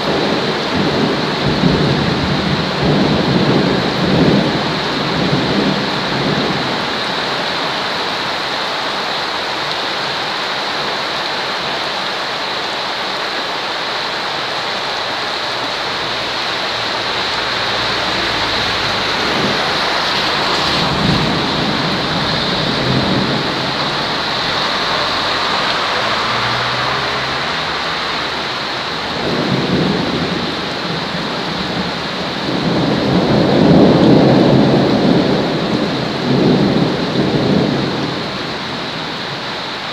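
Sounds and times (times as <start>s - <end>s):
thunder rumbling: 0.0s - 8.2s, 15.2s - 39.4s
heavy rain: 0.0s - 39.9s.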